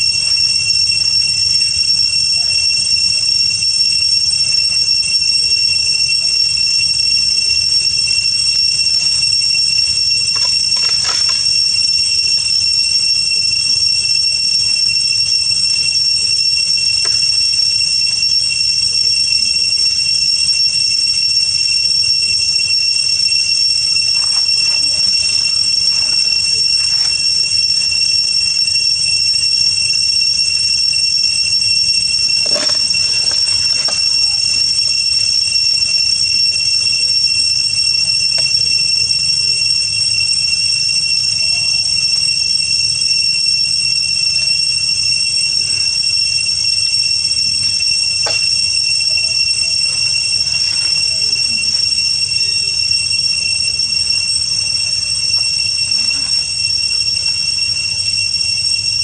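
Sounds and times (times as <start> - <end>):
high-pitched two-tone whine: 0.0 - 59.0.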